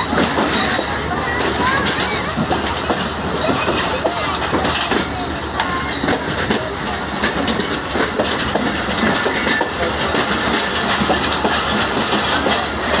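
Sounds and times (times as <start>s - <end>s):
train rumbling on track: 0.0s - 13.0s
wheels clattering over rails: 0.0s - 13.0s.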